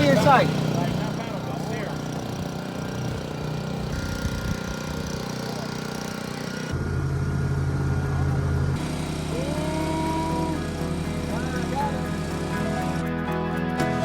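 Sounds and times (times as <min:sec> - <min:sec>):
outboard boat motor running: 0:00.0 - 0:14.0.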